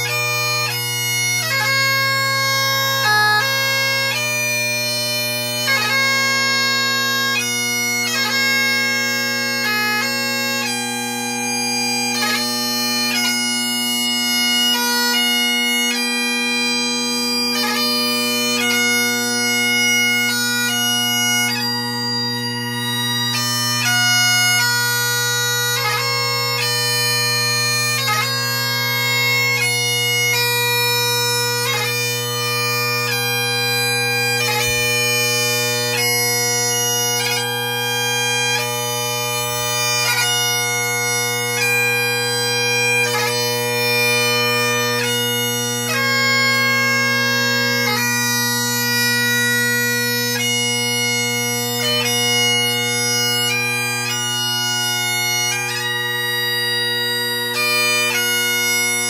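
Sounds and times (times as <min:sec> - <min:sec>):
bagpipe playing slow tune: 0:00.0 - 0:59.0.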